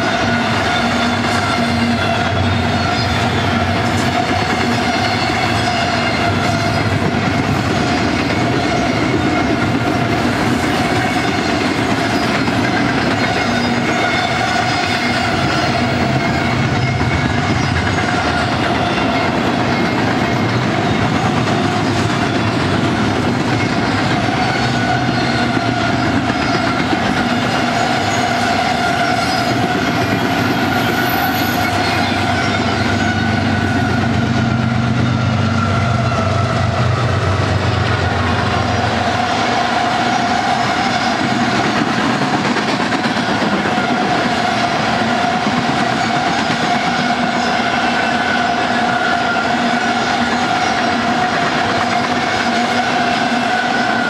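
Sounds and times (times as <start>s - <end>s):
train wheels clattering on rail: 0.0s - 54.0s.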